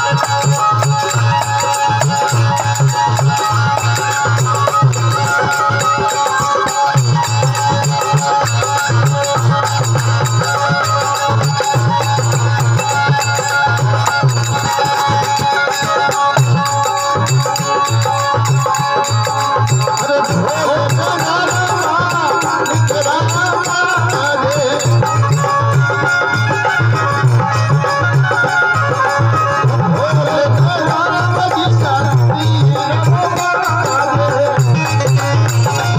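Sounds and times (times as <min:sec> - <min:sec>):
hand drum beat: 0:00.0 - 0:35.9.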